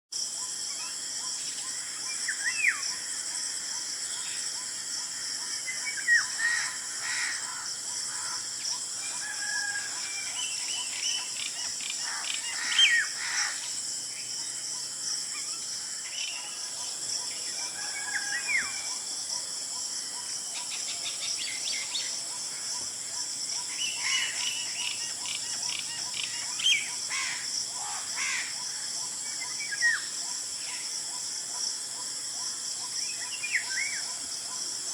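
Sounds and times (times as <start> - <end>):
steady high-pitched hiss: 0.1 - 34.9.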